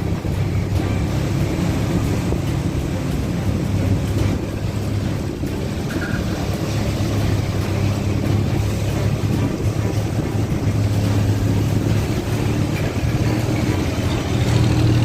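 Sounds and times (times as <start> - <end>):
boat engines running: 0.0 - 15.0
rushing water: 0.0 - 15.0
wind buffeting microphone: 0.0 - 15.0.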